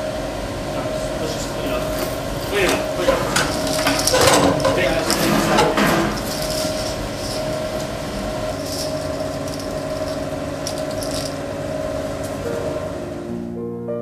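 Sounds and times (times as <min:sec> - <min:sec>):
droning hum of held tones: 0:00.0 - 0:14.0.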